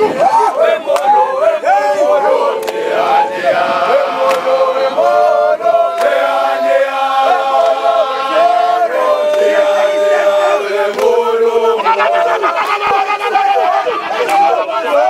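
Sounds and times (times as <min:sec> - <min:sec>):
men singing in unison: 0:00.0 - 0:15.0.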